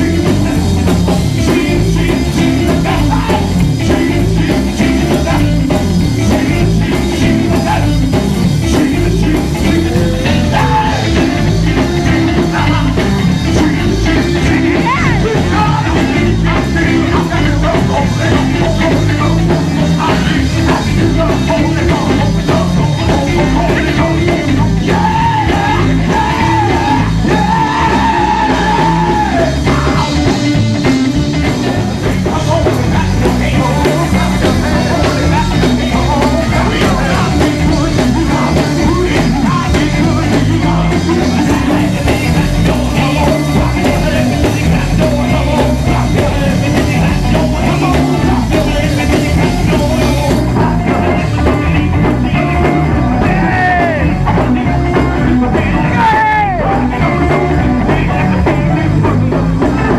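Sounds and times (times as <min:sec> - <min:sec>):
live gospel band: 0:00.0 - 0:59.9
singer singing and shouting: 0:00.0 - 0:59.9.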